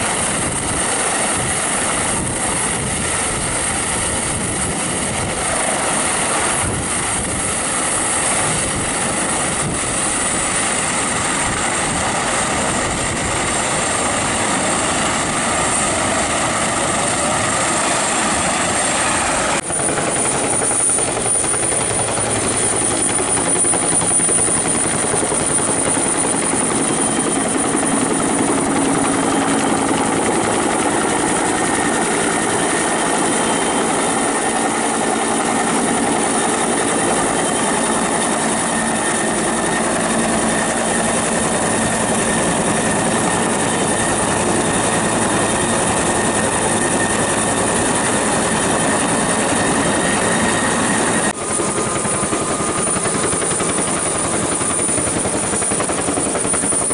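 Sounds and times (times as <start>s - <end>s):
helicopter rotor noise: 0.0s - 56.9s
high turbine whine: 0.0s - 56.9s.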